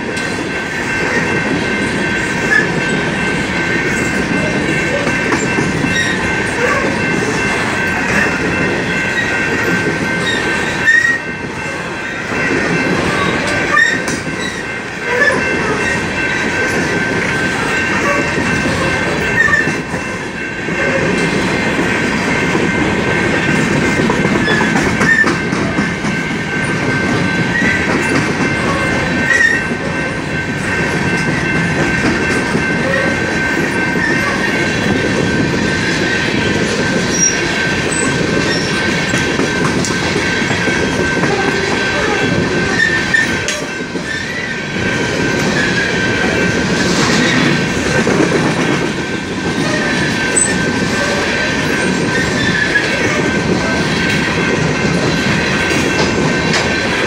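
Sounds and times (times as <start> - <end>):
train car clunks: 0.0 - 35.6, 36.4 - 57.0
train wheels rumbling on rails: 0.0 - 57.0.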